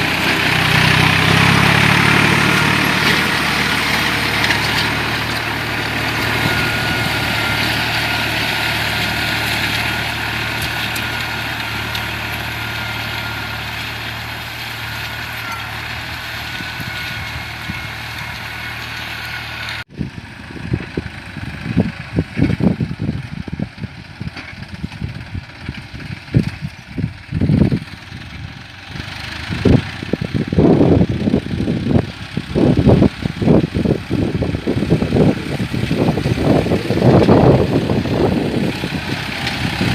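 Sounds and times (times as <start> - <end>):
tractor engine with thin whine: 0.0 - 39.9.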